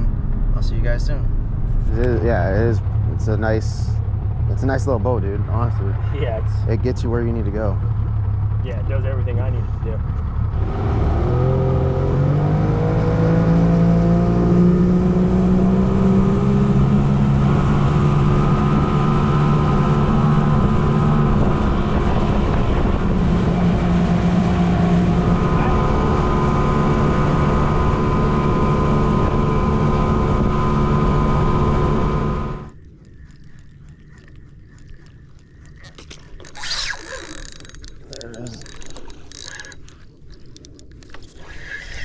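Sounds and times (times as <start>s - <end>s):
boat motor running: 0.0s - 41.5s.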